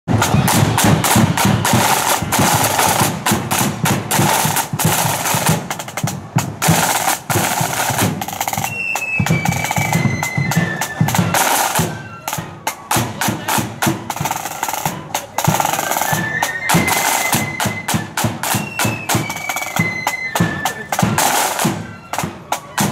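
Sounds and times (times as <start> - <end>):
marching drums: 0.1 - 22.9.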